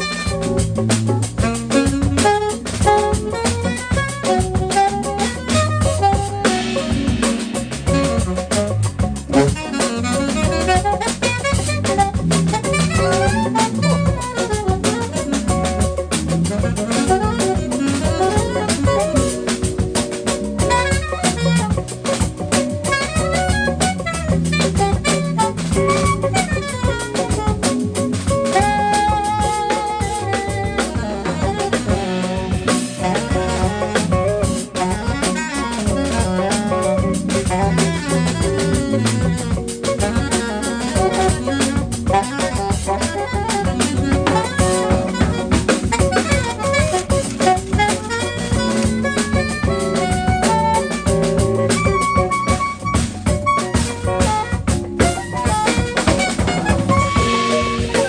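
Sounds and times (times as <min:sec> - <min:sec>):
drum kit with cymbals: 0:00.0 - 0:58.0
electric guitar: 0:00.0 - 0:58.0
electric keyboard: 0:00.0 - 0:58.0
jazz band playing: 0:00.0 - 0:58.0
saxophone playing quick runs: 0:00.0 - 0:58.0.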